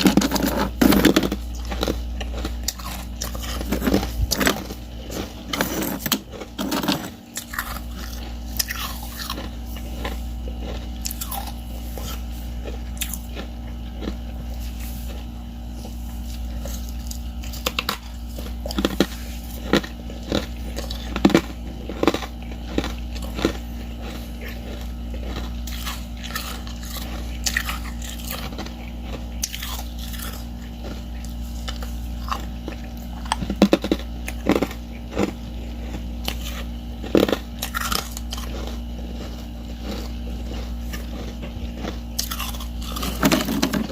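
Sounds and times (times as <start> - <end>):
person chewing ice: 0.0 - 43.9
steady low hum: 0.0 - 43.9.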